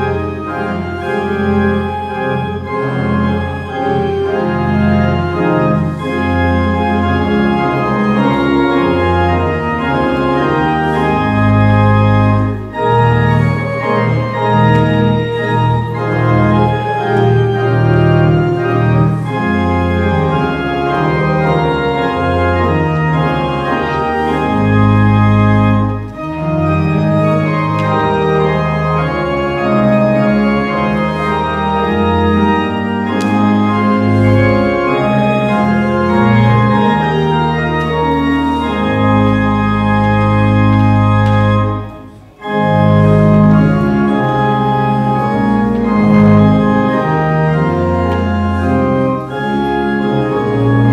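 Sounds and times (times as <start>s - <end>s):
church organ chords: 0.0s - 50.9s.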